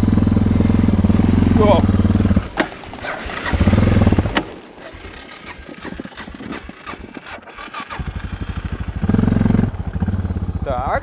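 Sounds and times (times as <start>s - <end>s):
dirt bike engine revving and sputtering: 0.0s - 11.0s.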